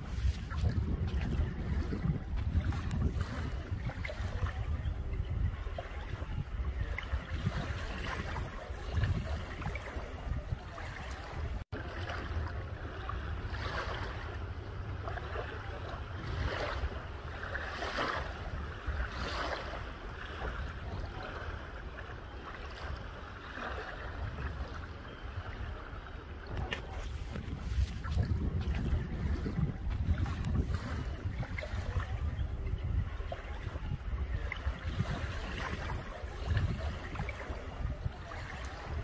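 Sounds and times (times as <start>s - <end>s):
wind rumbling on microphone: 0.0s - 39.0s.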